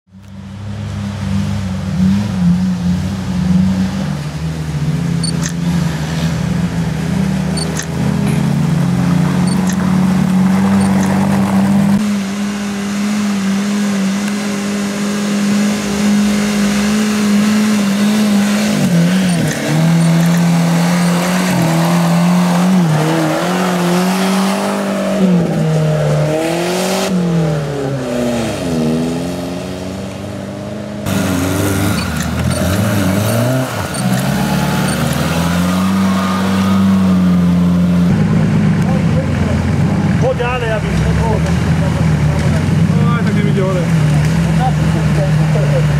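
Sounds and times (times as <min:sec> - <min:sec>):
off-road engines revving: 0:00.2 - 0:45.9.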